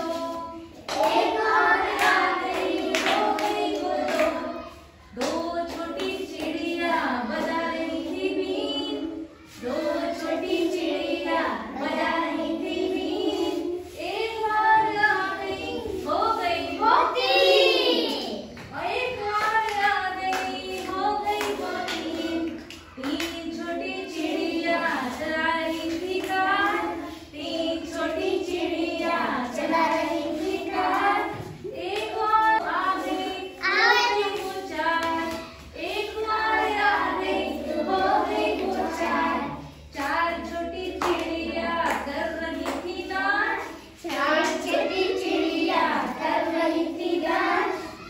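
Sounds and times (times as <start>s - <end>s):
children singing: 0.0s - 48.0s.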